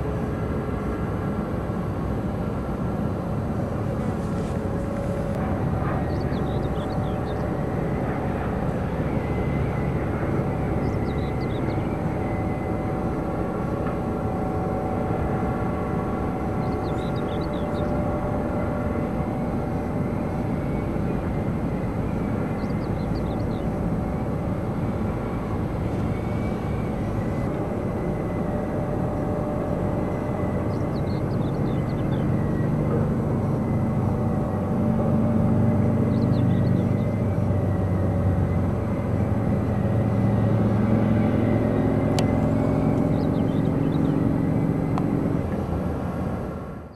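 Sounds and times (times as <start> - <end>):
excavator mechanical drone: 0.0 - 46.9.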